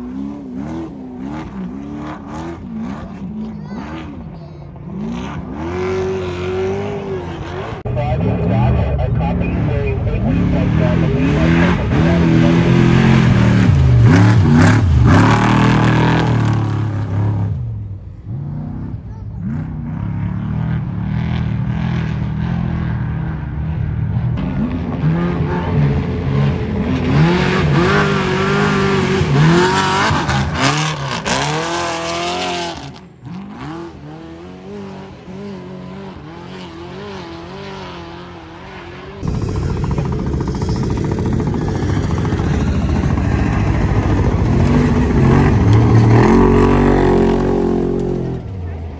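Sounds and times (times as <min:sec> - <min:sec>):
race trucks revving past: 0:00.0 - 0:48.9.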